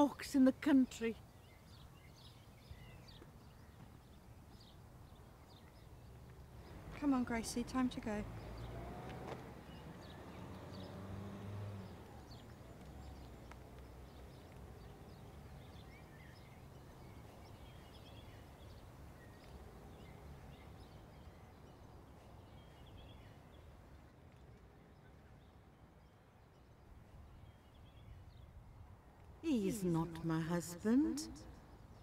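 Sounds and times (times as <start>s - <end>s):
low steady outdoor hum: 0.0s - 32.0s.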